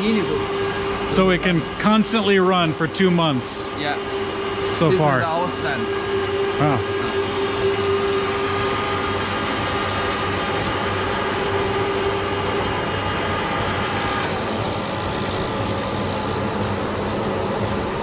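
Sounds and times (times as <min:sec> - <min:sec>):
motor mechanical hum: 0:00.0 - 0:18.0.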